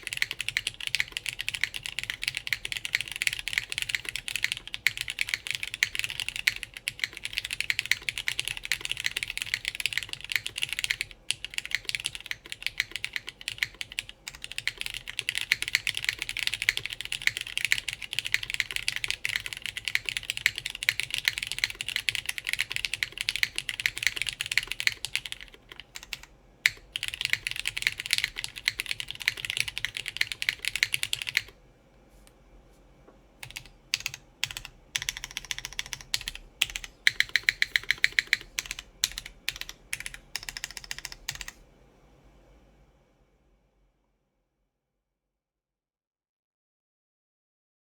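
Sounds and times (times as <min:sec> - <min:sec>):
typing on mechanical keyboard: 0:00.0 - 0:31.6, 0:33.4 - 0:41.6.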